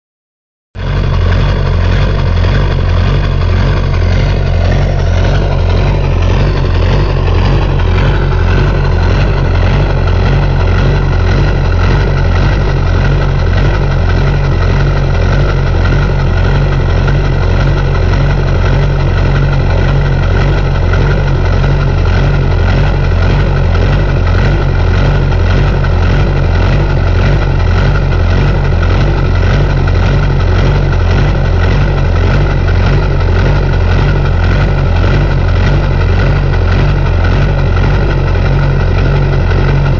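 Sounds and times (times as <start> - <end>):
diesel engine idling: 0.8 - 39.9.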